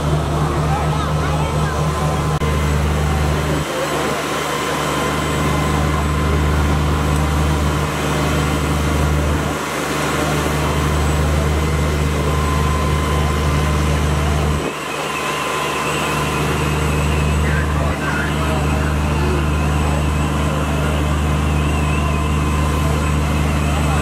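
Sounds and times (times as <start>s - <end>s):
faint wavering whine: 0.0s - 24.0s
fire engines idling: 0.0s - 24.0s.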